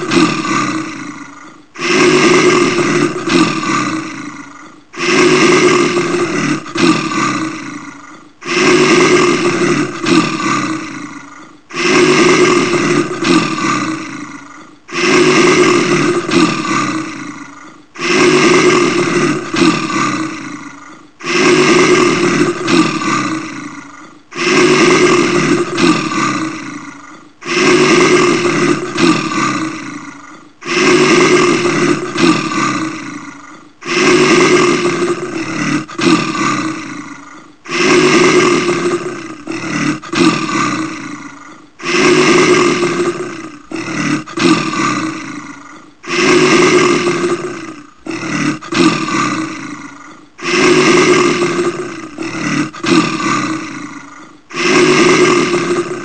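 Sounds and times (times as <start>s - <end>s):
bear roaring: 0.0s - 56.0s.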